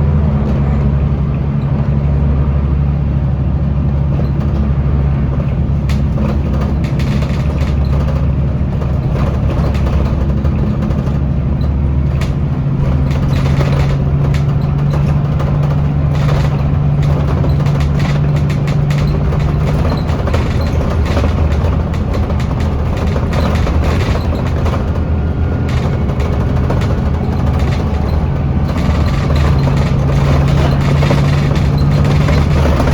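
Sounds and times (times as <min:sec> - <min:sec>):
bus engine droning: 0:00.0 - 0:32.9
body rattles and clicks: 0:04.0 - 0:32.9.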